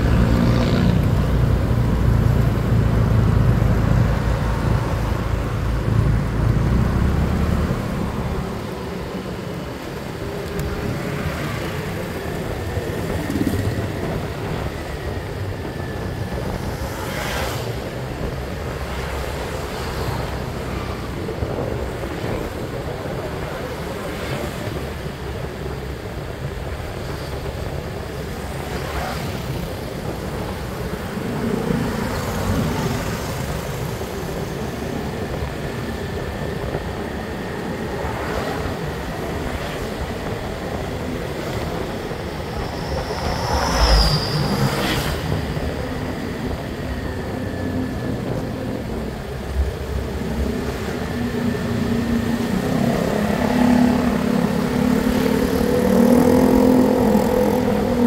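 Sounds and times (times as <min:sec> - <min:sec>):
motorbike engine hum: 0:00.0 - 0:58.0
passing traffic: 0:00.0 - 0:58.0
tyre and road noise: 0:00.0 - 0:58.0.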